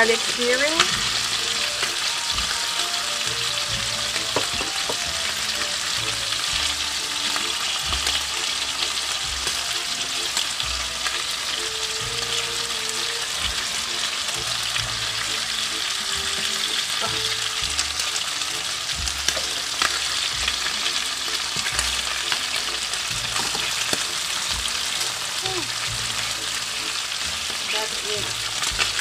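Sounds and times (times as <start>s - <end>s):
meat sizzling in a frying pan: 0.0s - 29.0s.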